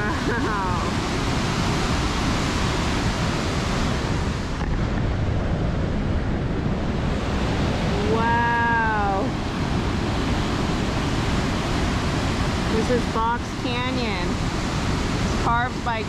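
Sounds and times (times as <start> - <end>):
fast water rushing: 0.0 - 16.0.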